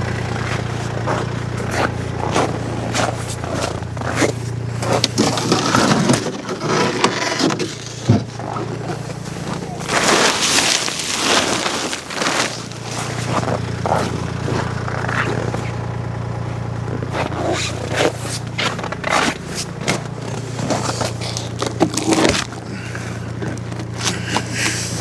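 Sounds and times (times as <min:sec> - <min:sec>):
scraping and knocking: 0:00.0 - 0:22.6
tractor engine idling: 0:00.0 - 0:25.0.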